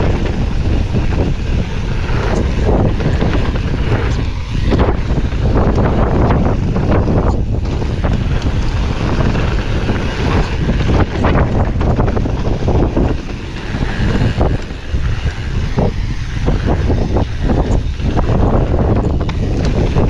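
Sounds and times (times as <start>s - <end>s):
bike rattling and knocking: 0.0s - 20.0s
wind buffeting microphone: 0.0s - 20.0s.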